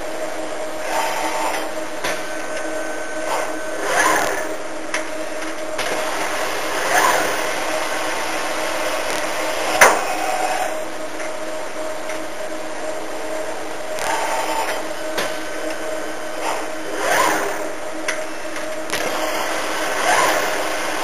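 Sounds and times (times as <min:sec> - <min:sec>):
machine humming: 0:00.0 - 0:21.0
moving machine part whirring: 0:00.1 - 0:21.0.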